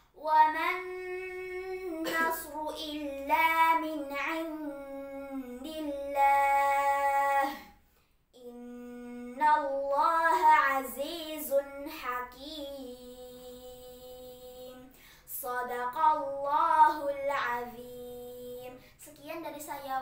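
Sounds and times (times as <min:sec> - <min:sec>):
girl chanting melodically: 0:00.0 - 0:20.0.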